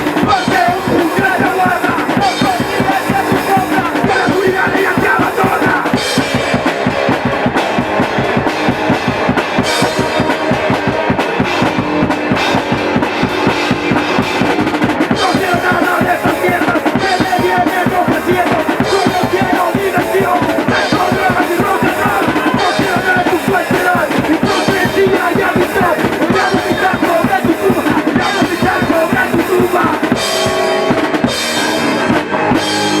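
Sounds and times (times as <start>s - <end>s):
fast driving drums: 0.0s - 33.0s
punk rock band playing: 0.0s - 33.0s.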